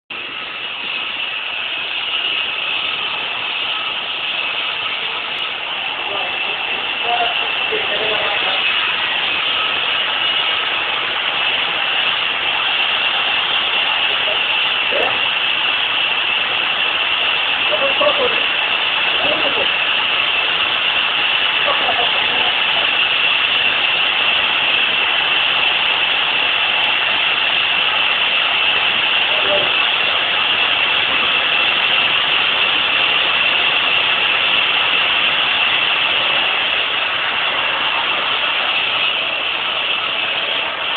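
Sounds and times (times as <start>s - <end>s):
machine motor running: 0.1s - 40.9s.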